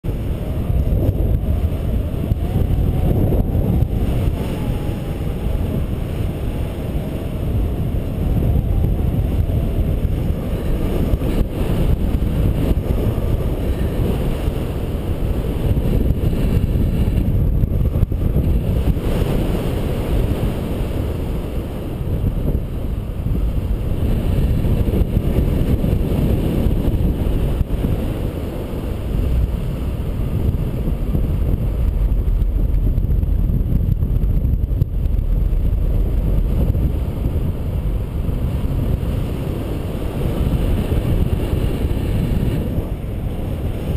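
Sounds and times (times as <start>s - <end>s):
low wind rumble: 0.0s - 43.9s.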